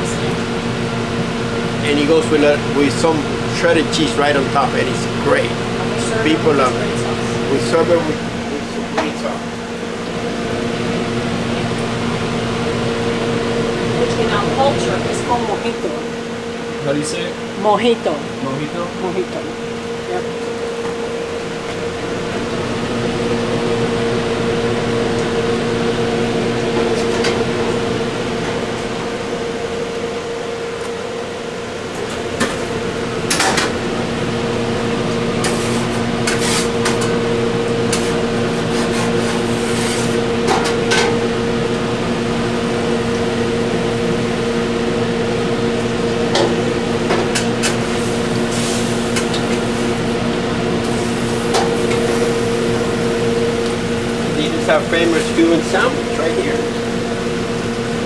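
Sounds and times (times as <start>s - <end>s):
kitchen equipment hum: 0.0s - 58.0s.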